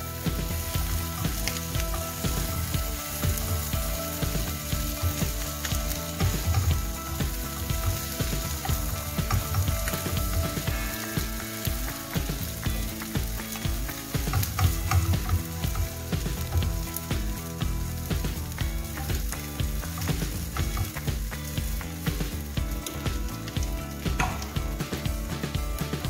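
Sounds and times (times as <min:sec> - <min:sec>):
omelet sizzling in a frying pan: 0:00.0 - 0:26.0.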